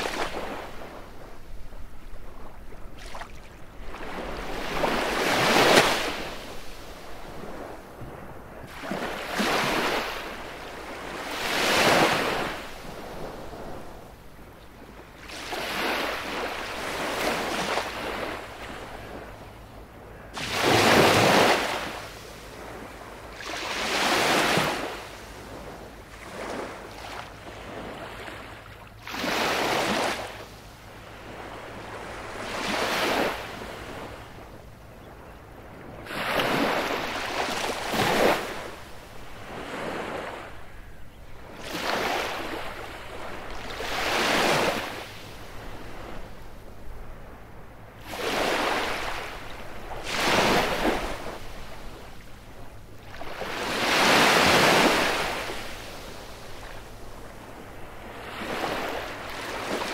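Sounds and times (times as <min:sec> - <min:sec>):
waves breaking on beach: 0:00.0 - 0:14.1, 0:15.1 - 0:19.4, 0:20.2 - 0:34.5, 0:36.0 - 0:47.1, 0:48.0 - 0:59.9.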